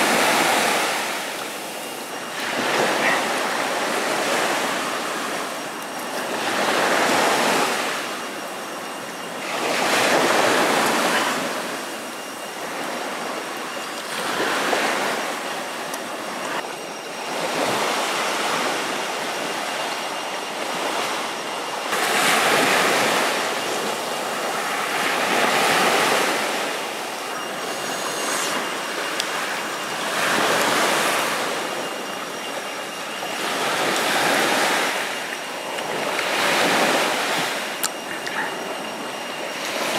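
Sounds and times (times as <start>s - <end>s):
waves washing in: 0.0s - 39.9s.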